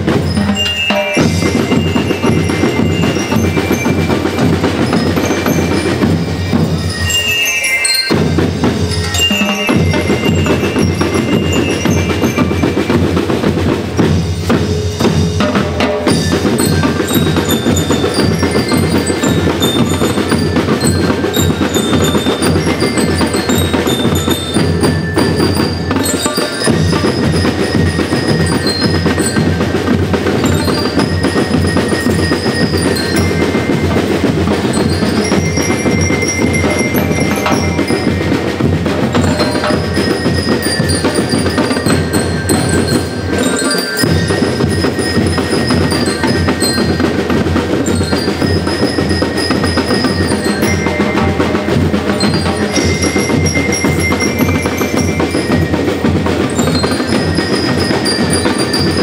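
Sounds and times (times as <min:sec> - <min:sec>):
bell lyres bright melody: 0:00.0 - 0:59.0
snare drums beat: 0:00.0 - 0:59.0.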